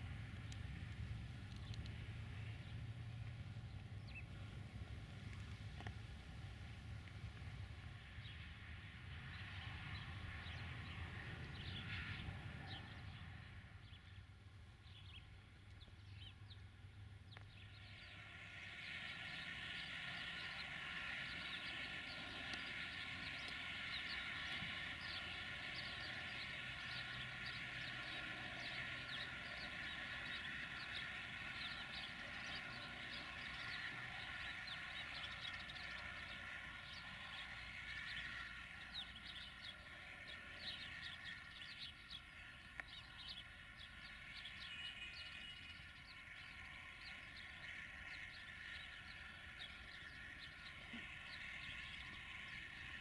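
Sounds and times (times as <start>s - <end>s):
distant diesel locomotive running: 0.0s - 53.0s
birds chirping: 9.1s - 53.0s.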